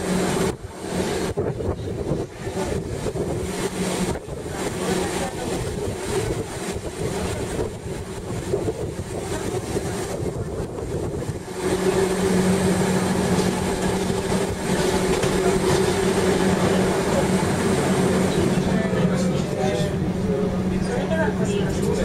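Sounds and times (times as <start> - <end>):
train hum: 0.0 - 22.0
train rolling rumble: 0.0 - 22.0.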